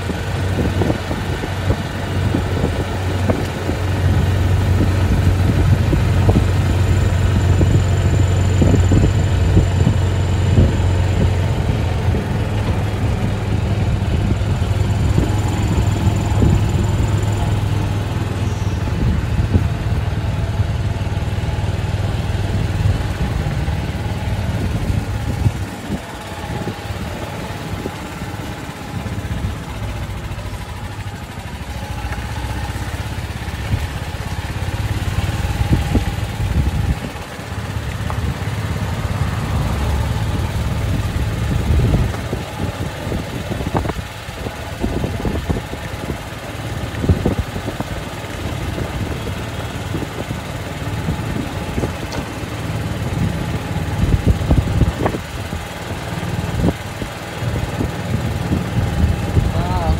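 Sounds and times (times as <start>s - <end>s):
small vehicle engine running: 0.0s - 59.9s.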